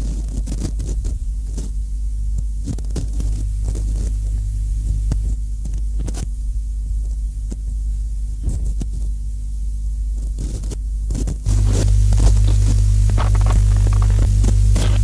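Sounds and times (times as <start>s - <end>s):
heavy low industrial drone: 0.0s - 10.2s, 10.9s - 15.0s
crackles and clicks: 0.0s - 15.0s.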